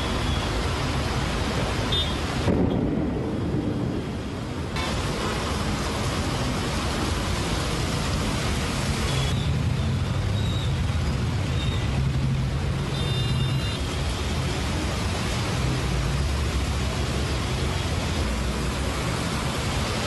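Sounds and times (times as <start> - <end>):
heavy rain pouring: 0.0 - 20.0
road traffic engine rumble: 0.0 - 20.0.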